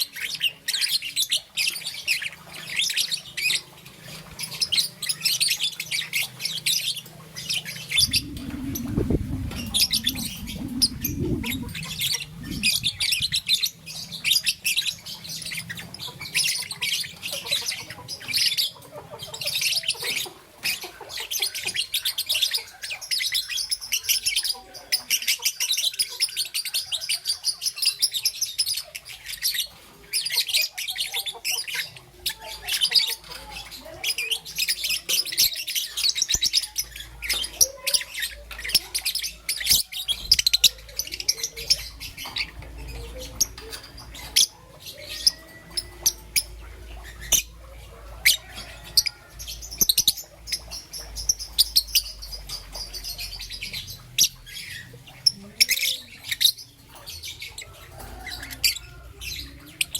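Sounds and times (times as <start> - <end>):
lovebird chirping: 4.4 - 59.9.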